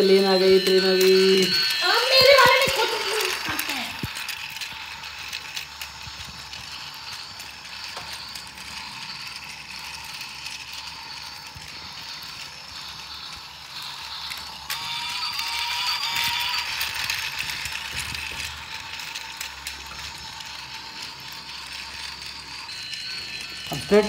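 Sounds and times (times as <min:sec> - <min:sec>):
toy train motor whirring: 0:00.0 - 0:24.0
toy train wheels clicking: 0:00.0 - 0:24.0.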